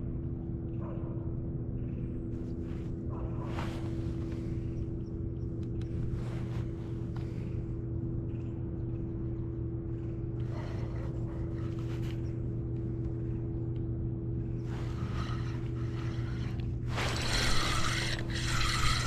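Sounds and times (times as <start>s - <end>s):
low motor hum: 0.0s - 19.0s.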